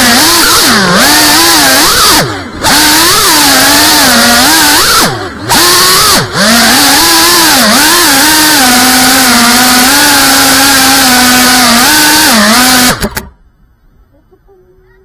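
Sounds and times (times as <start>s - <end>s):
drone motors whining: 0.0s - 13.4s.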